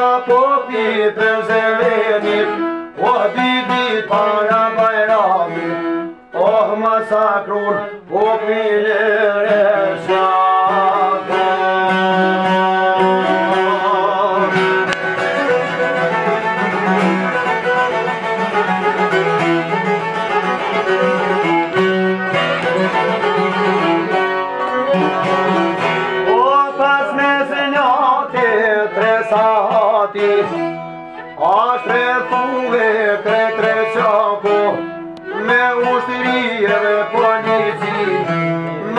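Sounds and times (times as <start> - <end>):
man singing: 0.0 - 19.1, 22.8 - 38.9
plucked lutes: 0.0 - 38.9.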